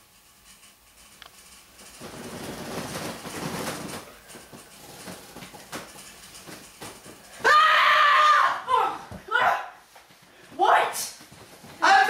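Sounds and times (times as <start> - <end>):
bedding rustling: 0.9 - 12.0.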